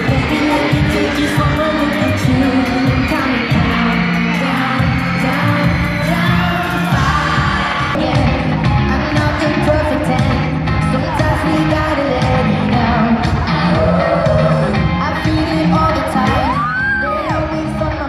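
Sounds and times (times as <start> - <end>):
live pop song over sound system: 0.0 - 18.0.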